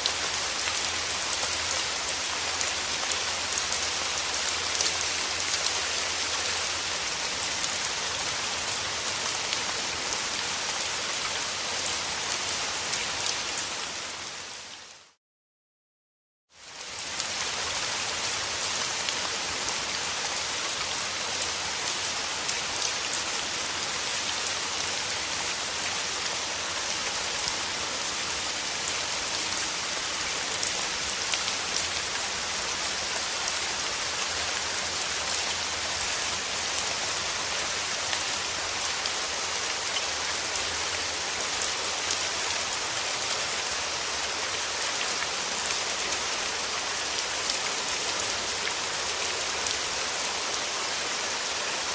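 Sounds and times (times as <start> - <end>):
steady rain falling: 0.0 - 15.2, 16.5 - 51.9.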